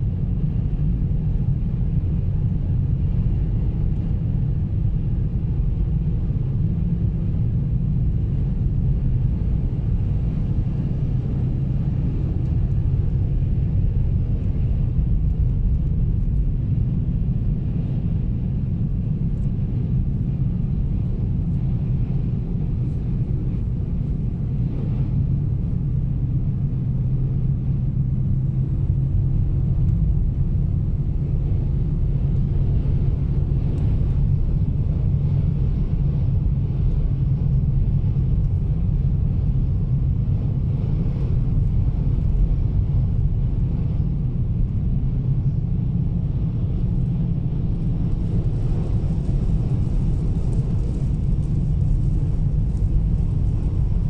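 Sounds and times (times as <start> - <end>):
car driving on snowy road: 0.0 - 54.0.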